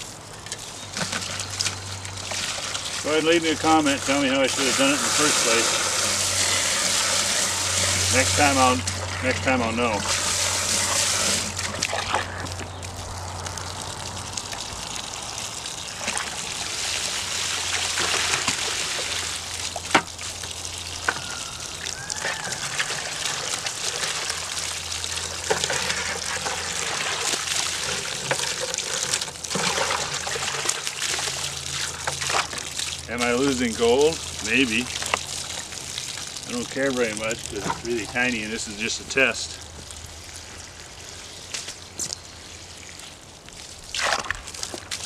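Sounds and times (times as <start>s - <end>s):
hose water trickling into bucket: 0.0s - 45.0s
water sloshing between buckets: 0.0s - 45.0s.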